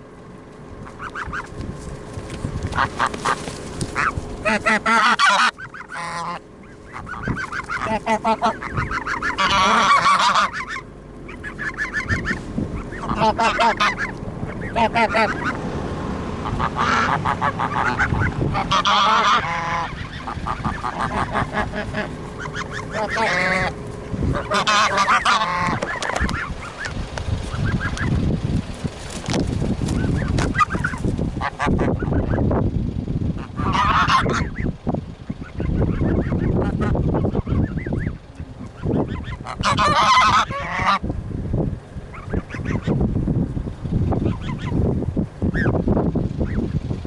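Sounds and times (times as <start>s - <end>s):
geese honking: 0.7s - 28.3s, 28.9s - 32.6s, 33.3s - 41.1s, 42.0s - 43.1s, 44.1s - 46.8s.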